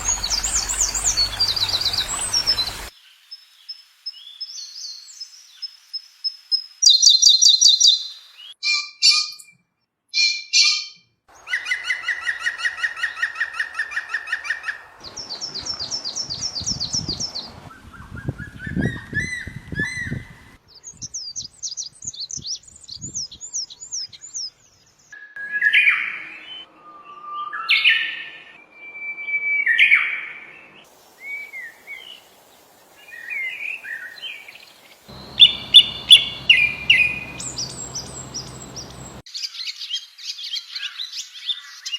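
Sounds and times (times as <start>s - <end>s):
songbirds singing: 0.0s - 9.6s, 10.2s - 25.2s, 30.6s - 41.9s.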